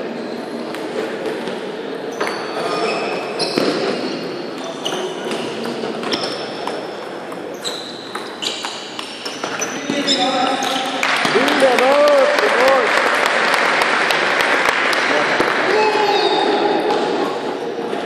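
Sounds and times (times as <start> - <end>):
sports hall background noise: 0.0 - 18.0.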